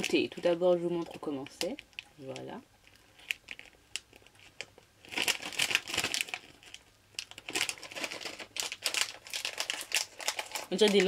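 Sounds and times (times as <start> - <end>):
plastic snack packet crinkling: 0.0 - 11.0.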